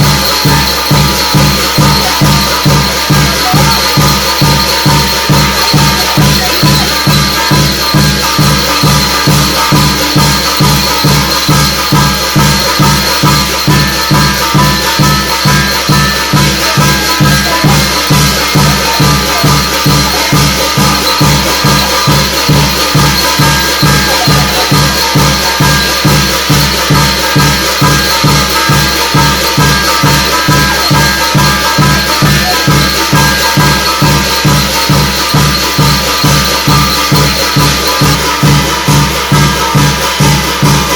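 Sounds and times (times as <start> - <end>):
drum fast even beat: 0.0 - 40.9
jangling rattling percussion: 0.0 - 40.9.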